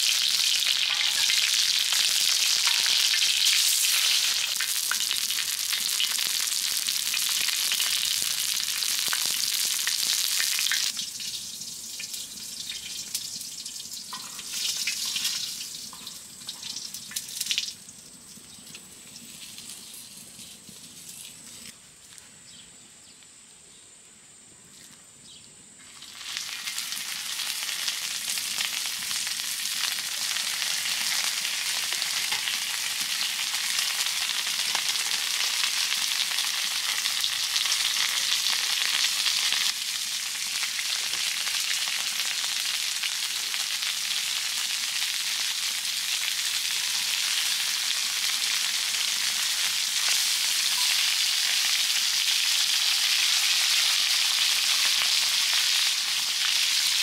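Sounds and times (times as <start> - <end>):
meat sizzling over a fire: 0.0 - 21.8, 25.8 - 57.0.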